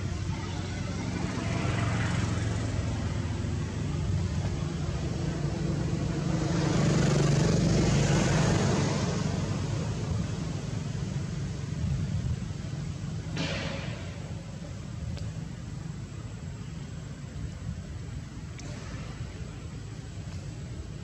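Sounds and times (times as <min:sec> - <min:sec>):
passing vehicle engine rumble: 0:00.0 - 0:21.0.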